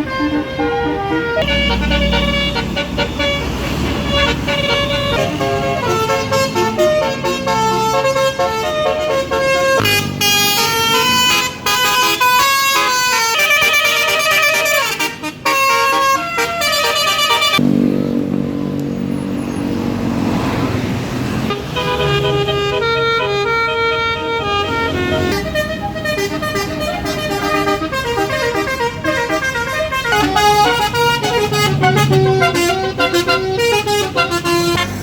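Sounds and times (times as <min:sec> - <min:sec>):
multi-tone melody horn: 0:00.0 - 0:17.8, 0:21.4 - 0:35.0.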